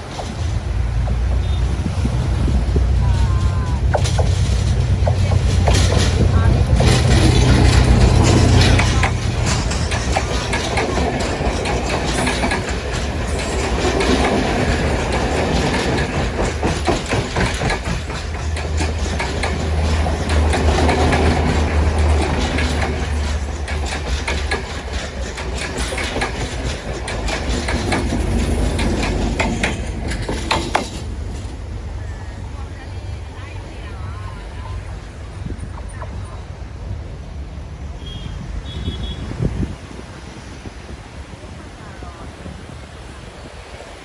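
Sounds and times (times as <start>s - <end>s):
train rumble: 0.0s - 44.0s
train wheels clacking on rails: 0.0s - 44.0s.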